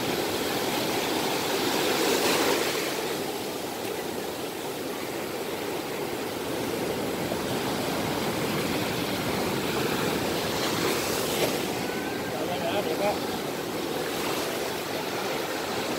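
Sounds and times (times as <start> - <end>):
ocean surf breaking on beach: 0.0 - 15.9.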